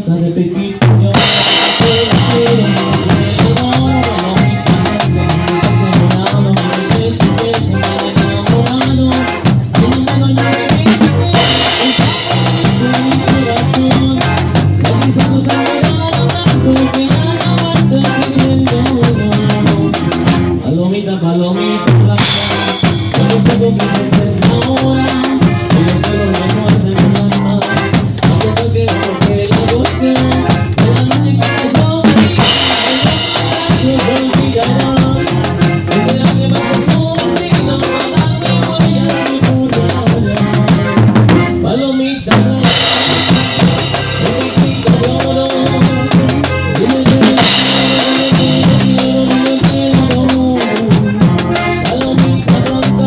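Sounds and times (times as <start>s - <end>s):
band playing instrumental: 0.0s - 53.0s
drum kit beat: 0.7s - 20.6s, 21.8s - 53.0s.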